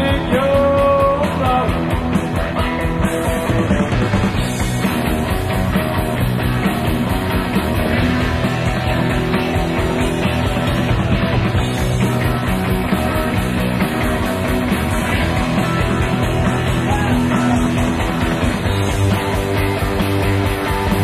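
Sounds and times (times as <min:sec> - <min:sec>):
rock music: 0:00.0 - 0:21.0.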